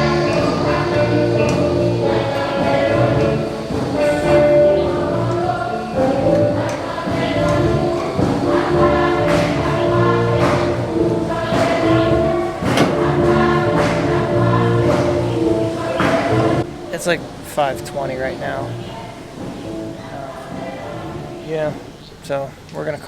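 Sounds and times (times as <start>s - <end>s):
instruments with steady beat: 0.0s - 21.3s
gospel choir singing: 0.0s - 22.2s.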